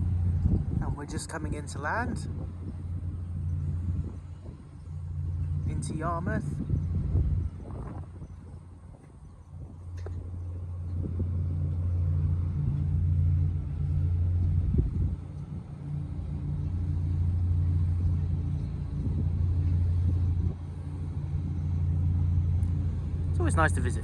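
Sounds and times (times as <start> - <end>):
ferry engines droning: 0.0 - 24.0.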